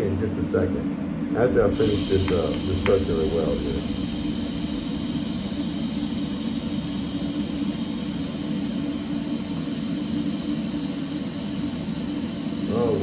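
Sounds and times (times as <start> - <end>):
welding arc crackling hiss: 1.6 - 13.0.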